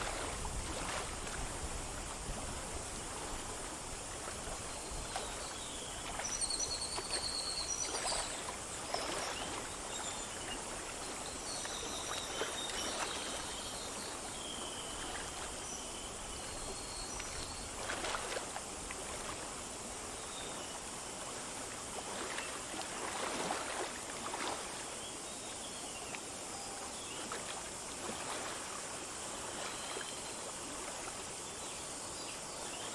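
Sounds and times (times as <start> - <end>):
stream flowing over stones: 0.0 - 32.9.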